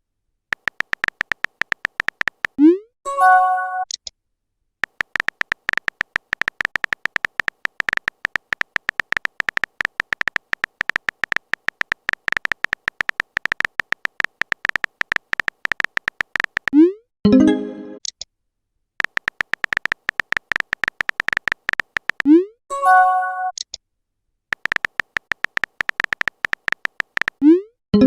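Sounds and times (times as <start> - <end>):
high beeping typing clicks: 0.5 - 2.9, 4.8 - 18.2, 19.0 - 22.5, 24.5 - 28.0.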